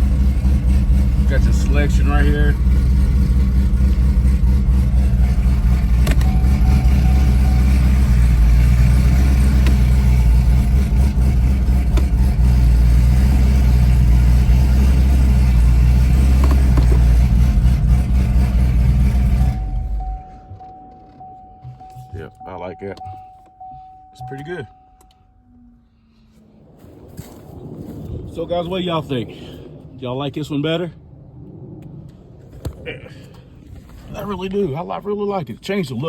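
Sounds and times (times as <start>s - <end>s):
car engine droning: 0.0s - 36.0s.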